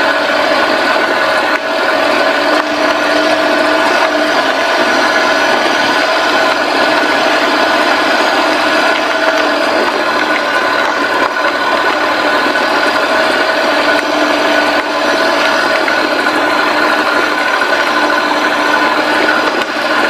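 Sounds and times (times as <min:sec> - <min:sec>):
steady whine: 0:00.0 - 0:20.0
truck engine and road noise: 0:00.0 - 0:20.0.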